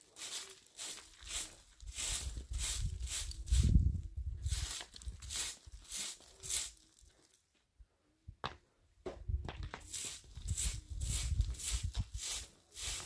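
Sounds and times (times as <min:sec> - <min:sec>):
straw broom sweeping dirt ground: 0:00.0 - 0:07.4, 0:09.7 - 0:13.0.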